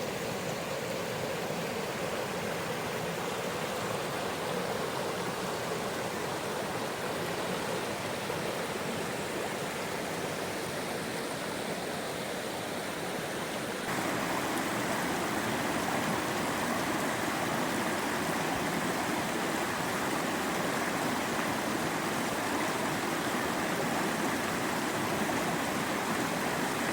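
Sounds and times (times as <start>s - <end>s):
mountain stream rushing: 0.0s - 26.9s.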